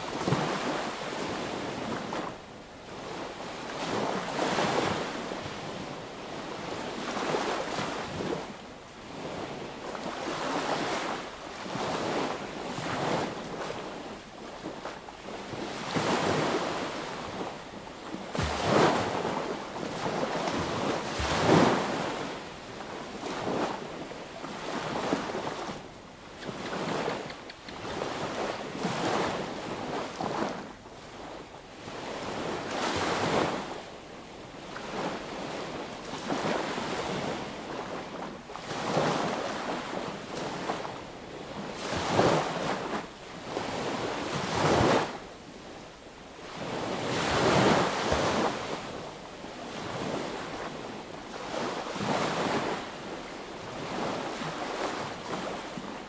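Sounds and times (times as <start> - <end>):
sea waves breaking on beach: 0.0 - 33.8, 34.5 - 45.7, 46.4 - 56.0.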